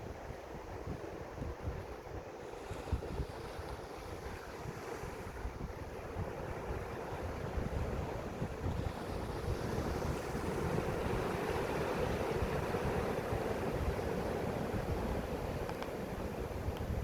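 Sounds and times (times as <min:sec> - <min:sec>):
wind buffeting microphone: 0:00.0 - 0:17.0
sea waves breaking on beach: 0:02.4 - 0:17.0.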